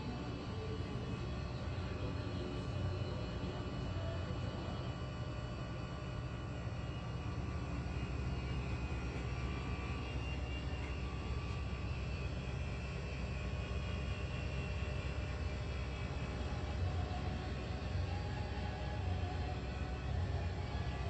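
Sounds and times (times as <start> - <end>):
faint high-pitched hum: 0.0 - 21.0.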